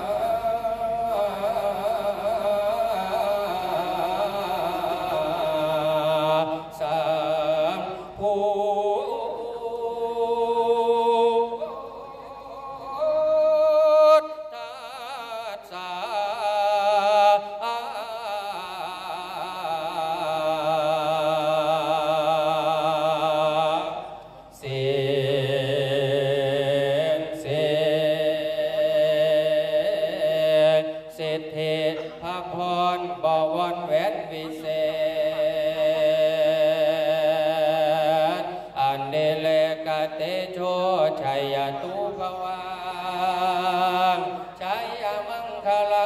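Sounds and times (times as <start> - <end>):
man chanting into a microphone: 0.0 - 46.0.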